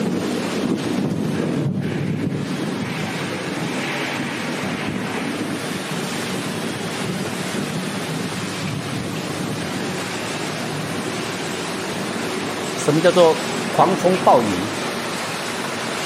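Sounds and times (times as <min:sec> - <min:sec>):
heavy rain: 0:00.0 - 0:16.0
strong wind: 0:00.0 - 0:16.0
wind buffeting microphone: 0:00.0 - 0:16.0.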